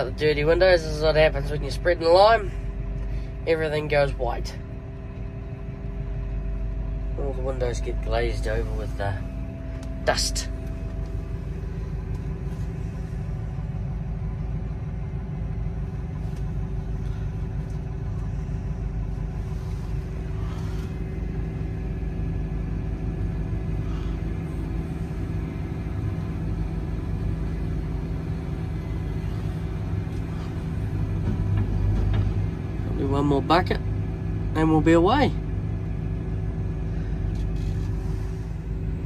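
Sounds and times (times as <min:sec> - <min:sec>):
tractor engines humming: 0:00.0 - 0:39.0.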